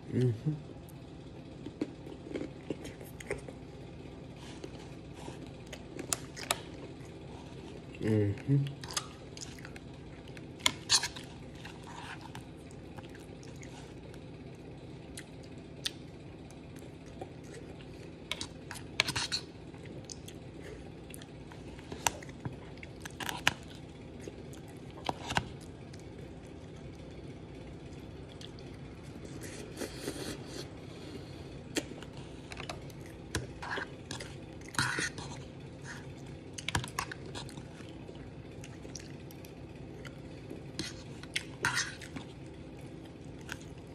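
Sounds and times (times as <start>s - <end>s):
low background hum: 0.0s - 43.9s
chewing: 0.9s - 43.9s.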